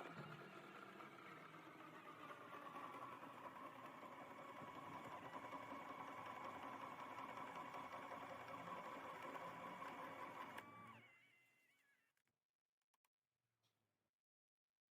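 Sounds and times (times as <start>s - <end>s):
power drill whining: 0.0s - 12.0s.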